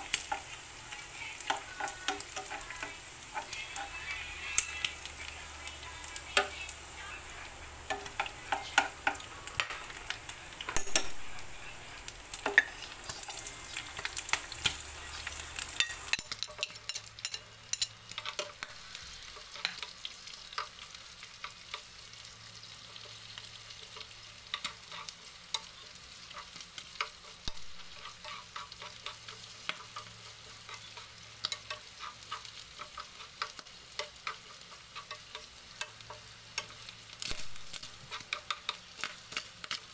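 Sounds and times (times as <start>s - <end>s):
meat sizzling in a frying pan: 0.0s - 39.9s
metal spoon scraping a pan: 0.0s - 39.9s.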